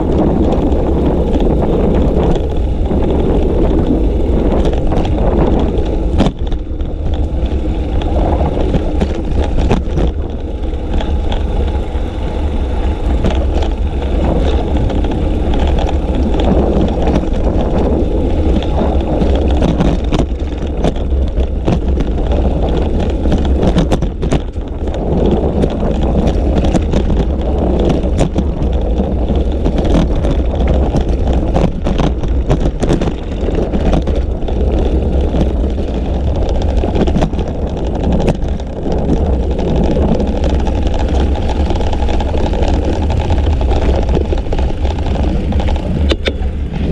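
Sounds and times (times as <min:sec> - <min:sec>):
bicycle clicks and rattles: 0:00.0 - 0:46.9
road noise: 0:00.0 - 0:46.9
wind buffeting: 0:00.0 - 0:46.9.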